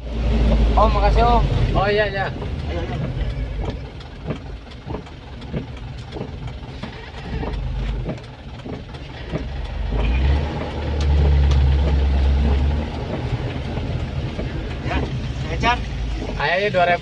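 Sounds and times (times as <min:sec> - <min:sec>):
bus engine rumble: 0:00.0 - 0:17.0
regular ticking: 0:00.0 - 0:17.0.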